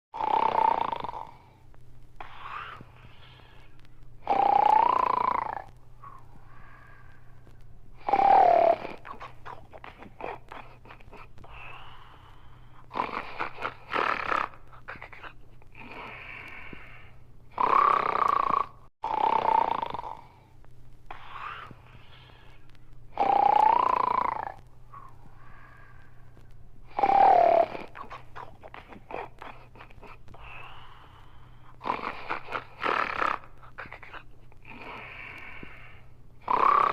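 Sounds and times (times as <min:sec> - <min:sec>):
person snoring: 0:00.2 - 0:01.6, 0:02.2 - 0:07.4, 0:08.0 - 0:20.5, 0:21.1 - 0:26.3, 0:26.9 - 0:36.9.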